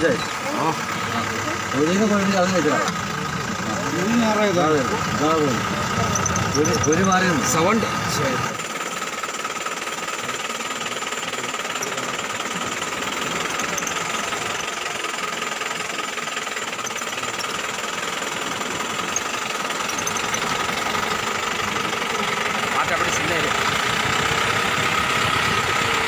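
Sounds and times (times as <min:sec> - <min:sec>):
engine running with rattling clatter: 0:00.0 - 0:26.0.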